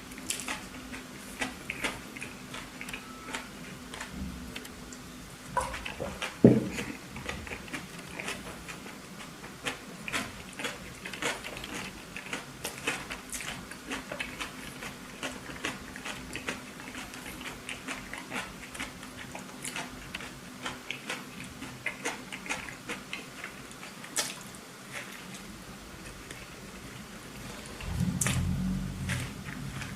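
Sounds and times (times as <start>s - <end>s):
chewing with wet clicks: 0.1s - 5.0s, 5.6s - 26.4s.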